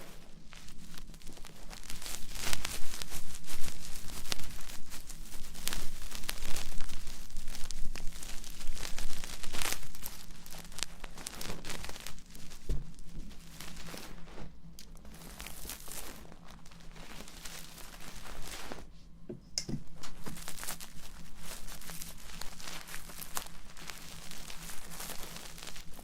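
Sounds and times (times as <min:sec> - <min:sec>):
scratching and rustling on microphone: 0:00.0 - 0:19.2, 0:19.8 - 0:26.0.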